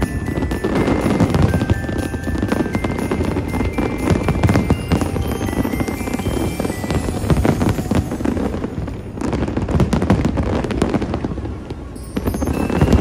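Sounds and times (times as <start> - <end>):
firework shells bursting and crackling: 0.0 - 13.0.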